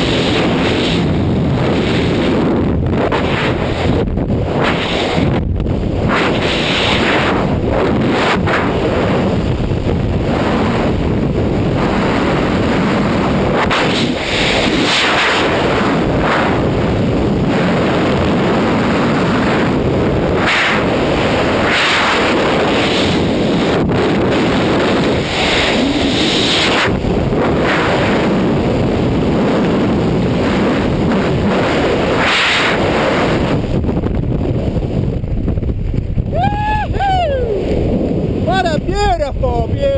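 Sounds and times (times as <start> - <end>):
freefall wind rushing: 0.0 - 39.9.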